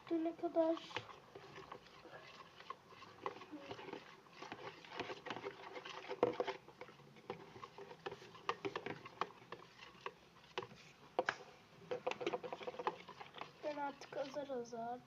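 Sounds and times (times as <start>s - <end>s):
spoon stirring slime: 0.0s - 15.0s.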